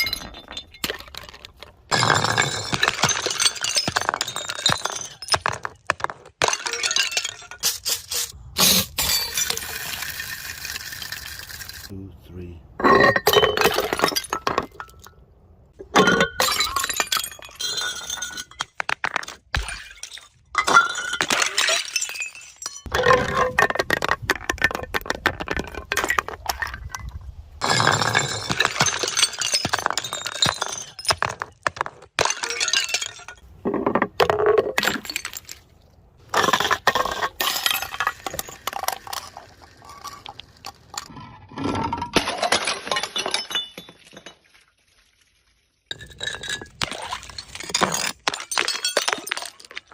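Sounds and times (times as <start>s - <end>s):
glass bottles shattering: 0.0s - 11.9s, 12.8s - 15.2s, 15.8s - 33.5s, 34.1s - 44.8s, 45.9s - 49.9s.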